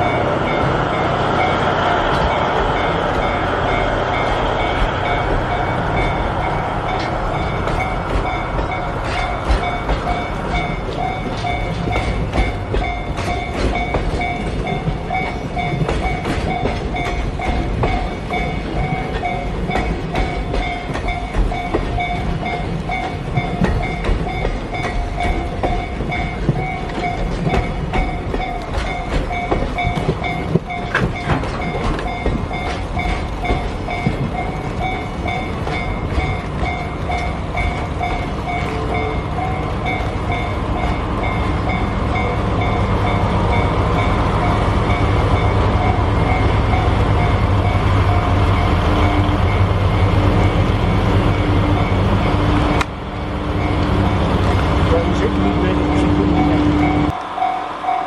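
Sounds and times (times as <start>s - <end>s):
train wheels clattering over rail joints: 0.0s - 49.5s
crossing warning bell ringing: 0.0s - 58.0s
diesel locomotive engine: 0.0s - 58.0s.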